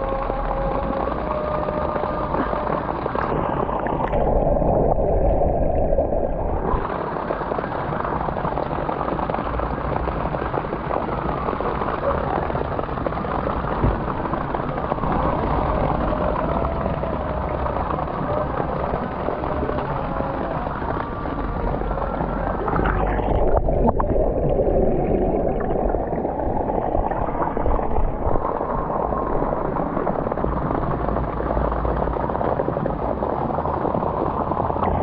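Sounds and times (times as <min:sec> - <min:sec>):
water sloshing and gurgling: 0:00.0 - 0:35.0.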